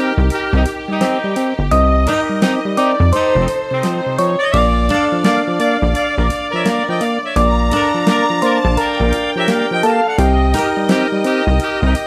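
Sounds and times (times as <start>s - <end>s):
melody over steady beat: 1.7s - 12.0s.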